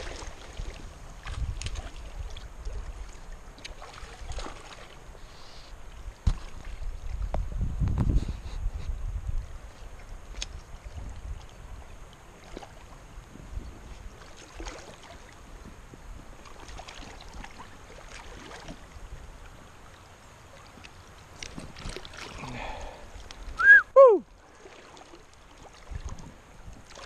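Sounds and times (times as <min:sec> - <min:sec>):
small water splashes: 0:00.0 - 0:07.5, 0:09.9 - 0:27.0
river water sloshing and trickling: 0:00.0 - 0:27.0.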